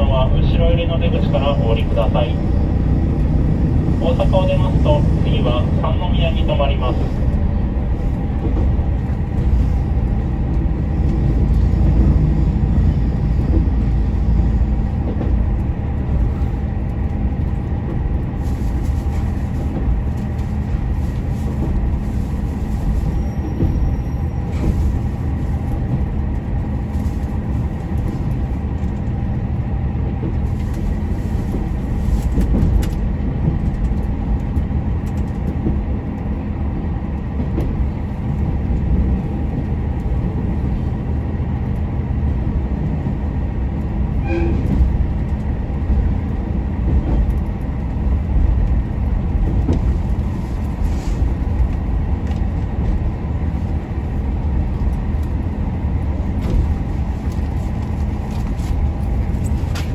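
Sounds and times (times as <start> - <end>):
diesel train engine and wheels rumbling: 0.0 - 59.9.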